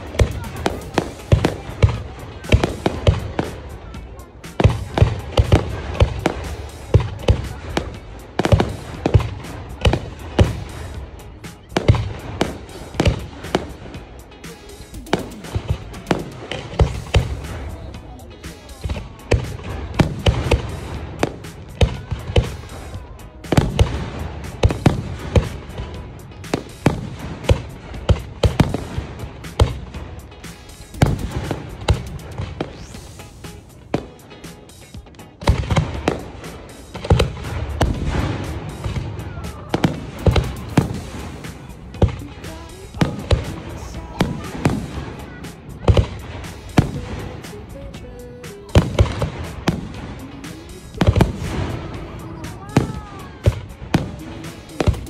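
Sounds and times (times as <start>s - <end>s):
fireworks bursting: 0.0s - 55.0s
music playing: 0.0s - 55.0s.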